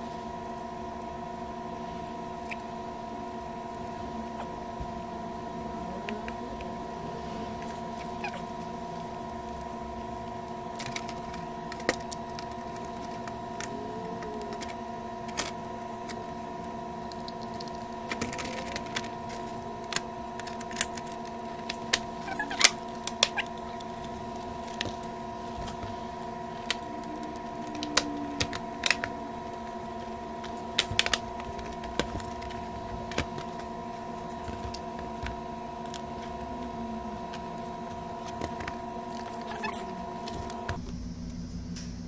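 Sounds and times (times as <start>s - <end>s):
steady hum of fixed tones: 0.0s - 42.0s.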